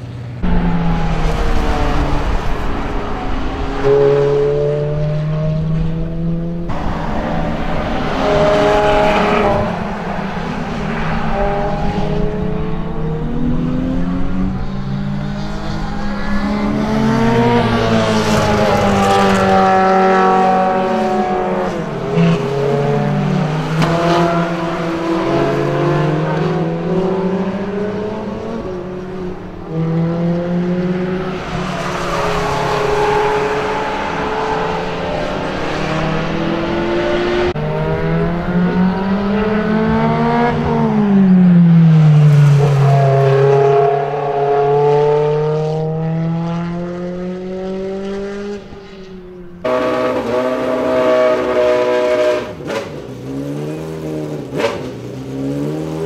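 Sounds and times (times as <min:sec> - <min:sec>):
race car engines accelerating: 0:00.0 - 0:56.0.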